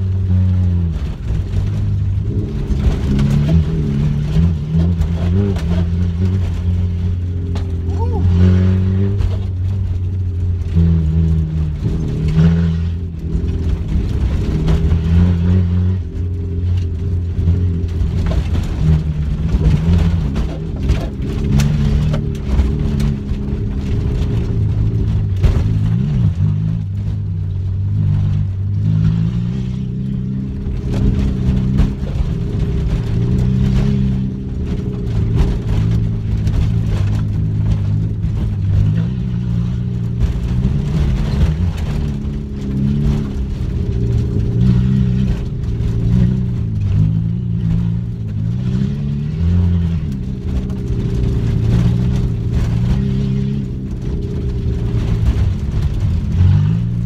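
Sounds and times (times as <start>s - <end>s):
car engine revving: 0.0s - 57.0s
car knocks and rattles: 0.0s - 57.0s.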